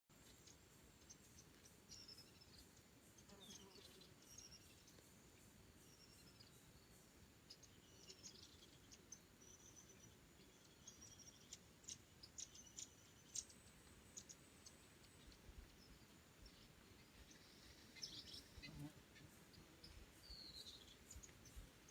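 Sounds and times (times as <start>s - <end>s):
small songbirds chirping: 0.1s - 21.9s.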